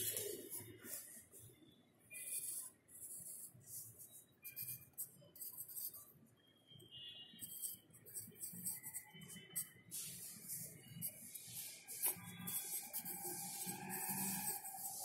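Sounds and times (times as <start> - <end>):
pencil scratching on paper: 0.0 - 1.4, 2.1 - 6.2, 7.4 - 15.0.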